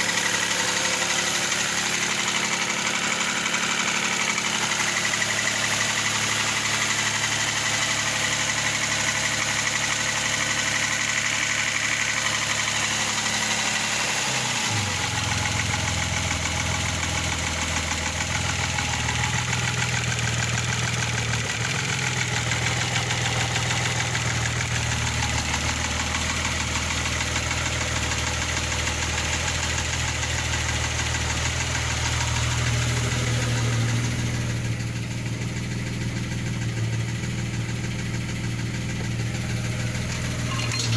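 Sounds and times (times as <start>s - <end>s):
car engine idling with knocking: 0.0s - 40.9s.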